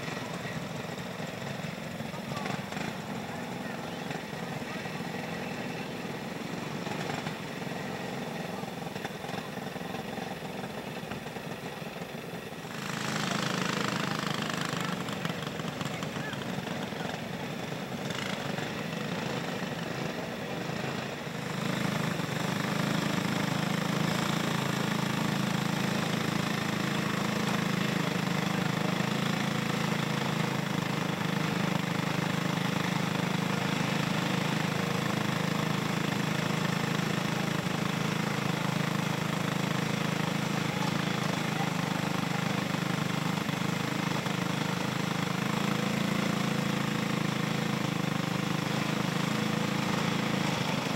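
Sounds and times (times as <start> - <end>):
go-kart engines buzzing: 0.0 - 50.9.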